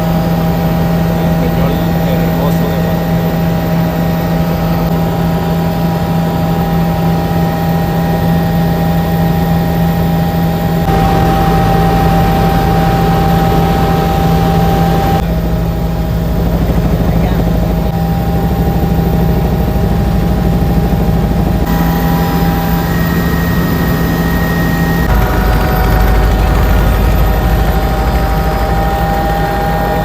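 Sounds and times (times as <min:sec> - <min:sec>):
constant whine: 0:00.0 - 0:30.0
helicopter engine and rotor drone: 0:00.0 - 0:30.0.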